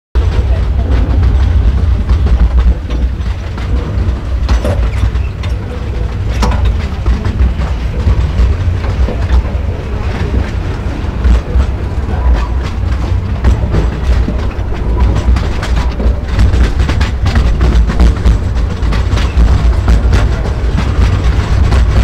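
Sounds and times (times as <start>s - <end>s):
train rumbling on track: 0.2s - 22.0s
wheels clicking: 0.2s - 22.0s.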